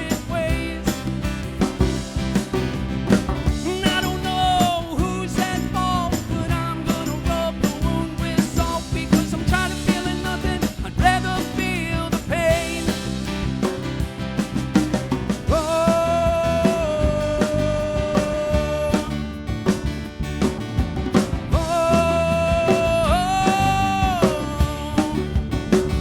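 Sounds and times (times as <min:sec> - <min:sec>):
live band instrumental music: 0:00.0 - 0:26.0.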